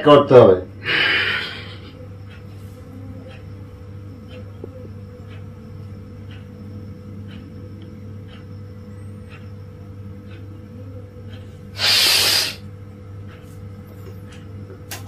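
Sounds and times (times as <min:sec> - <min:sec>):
steady low hum: 0:00.0 - 0:15.0
faint ticking: 0:00.7 - 0:15.0.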